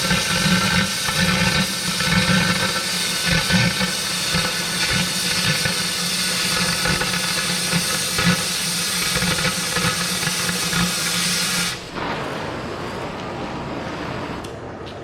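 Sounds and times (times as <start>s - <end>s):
cutting torch hissing: 0.0s - 14.4s.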